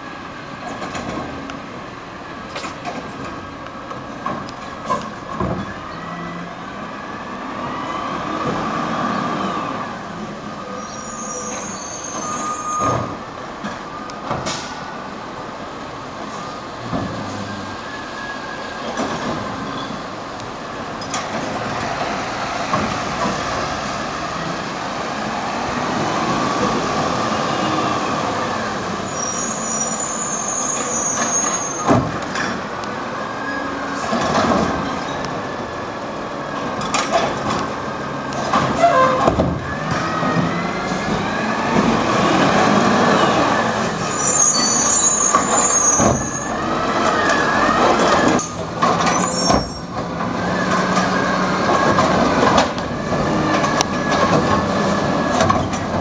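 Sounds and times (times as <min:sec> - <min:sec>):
garbage truck engine and hydraulics: 0:00.1 - 0:56.0.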